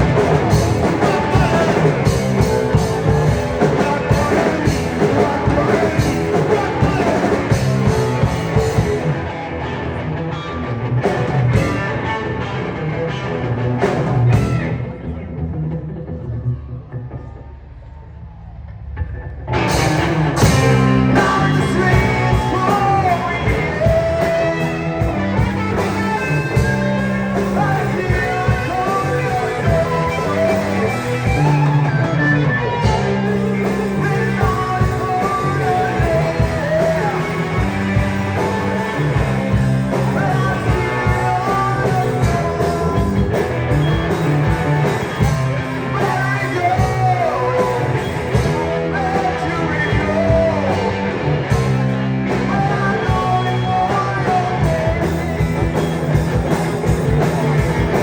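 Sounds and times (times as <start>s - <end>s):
person singing: 0.0s - 9.2s, 19.6s - 58.0s
live rock band playing: 0.0s - 15.7s, 19.4s - 58.0s.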